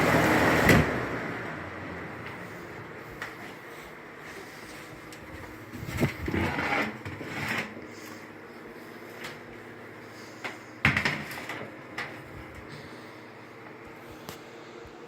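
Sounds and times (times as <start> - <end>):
box fans humming: 0.0 - 15.0.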